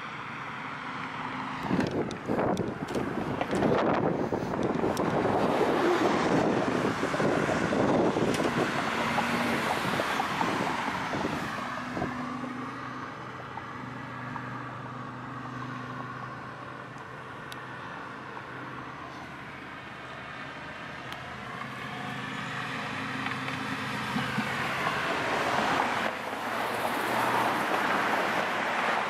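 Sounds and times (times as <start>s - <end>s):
car passing: 0.0s - 29.0s.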